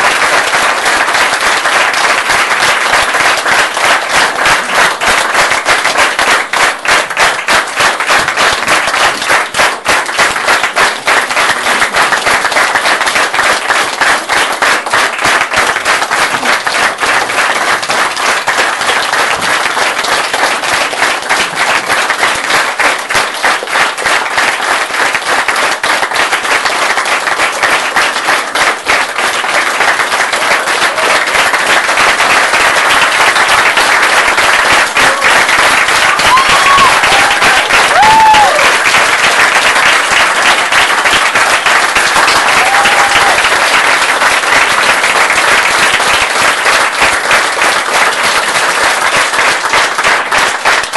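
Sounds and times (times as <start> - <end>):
audience applauding: 0.0 - 50.9.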